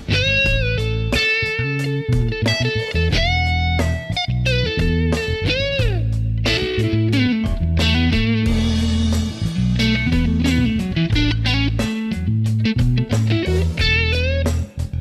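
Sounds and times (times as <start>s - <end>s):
bass line: 0.0s - 15.0s
electric guitar music: 0.0s - 15.0s.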